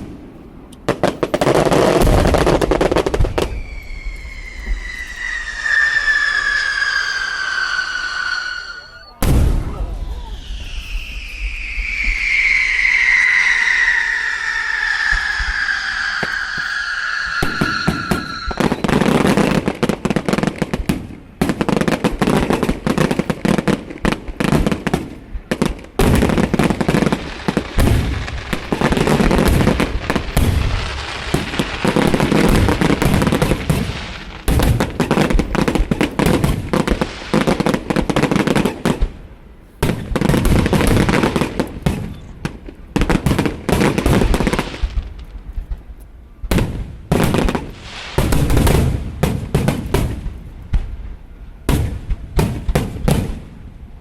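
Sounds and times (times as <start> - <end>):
fireworks banging: 0.0 - 53.6.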